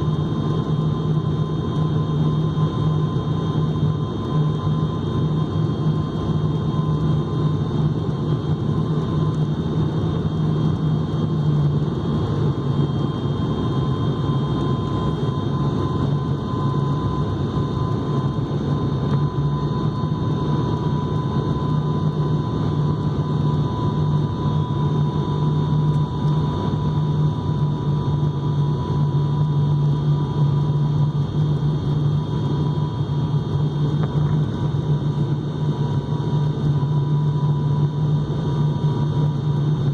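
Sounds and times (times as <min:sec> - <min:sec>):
airliner engines droning: 0:00.0 - 0:39.9
faint steady whine: 0:00.0 - 0:39.9.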